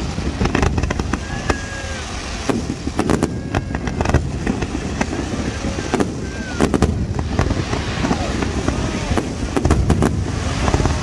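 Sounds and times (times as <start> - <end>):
fireworks bangs and crackles: 0.0 - 11.0
low rumble: 0.0 - 11.0.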